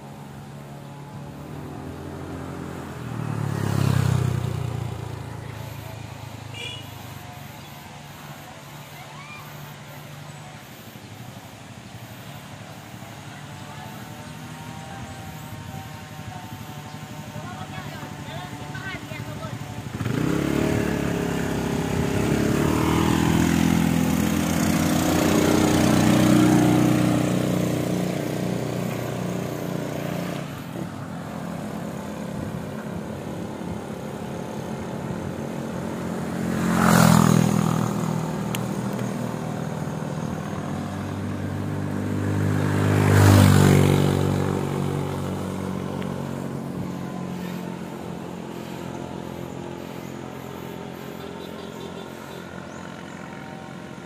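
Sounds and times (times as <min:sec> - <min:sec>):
motorcycle engines running: 0:00.0 - 0:54.0
vehicles passing loudly: 0:00.0 - 0:54.0.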